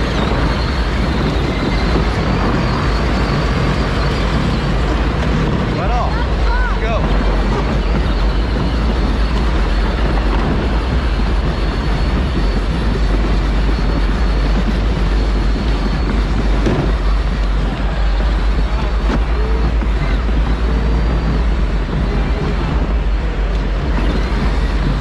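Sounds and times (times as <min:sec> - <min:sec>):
electric ride-on car driving: 0:00.0 - 0:25.0.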